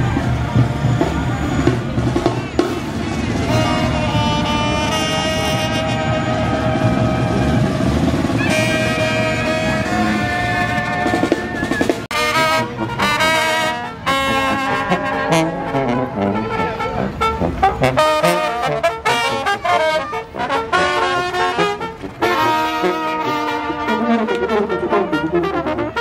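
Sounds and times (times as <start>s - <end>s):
marching brass band playing: 0.0s - 26.0s.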